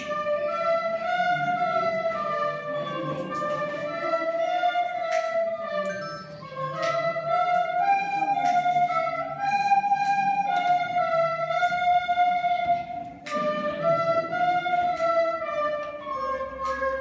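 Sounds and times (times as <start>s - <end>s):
children playing recorders: 0.0s - 17.0s.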